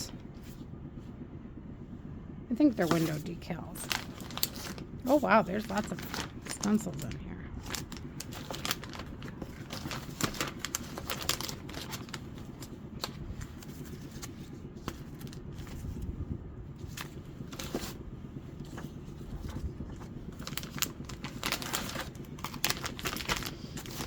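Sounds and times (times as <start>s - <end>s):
low background rumble: 0.0s - 24.0s
paper and cardboard rustling: 2.7s - 16.2s, 16.8s - 24.0s.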